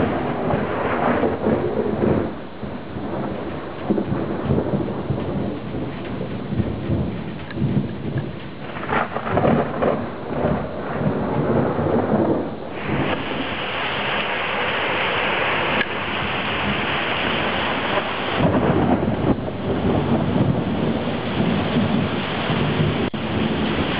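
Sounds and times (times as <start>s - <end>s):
rain falling: 0.0s - 23.9s
thunder rumbling: 0.0s - 23.9s.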